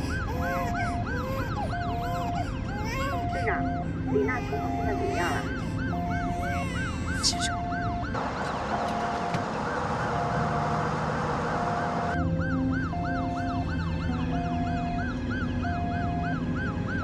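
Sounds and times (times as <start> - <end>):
ambulance siren: 0.0 - 17.0.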